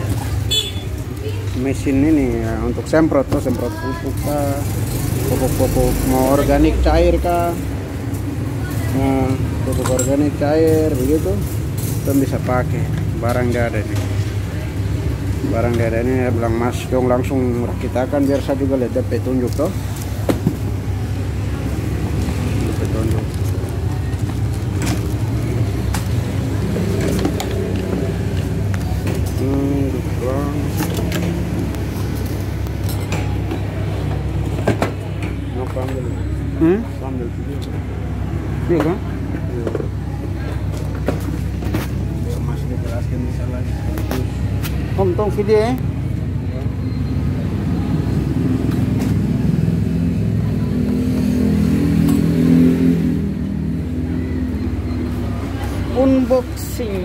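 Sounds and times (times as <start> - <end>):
traffic engine hum: 0.0 - 57.0.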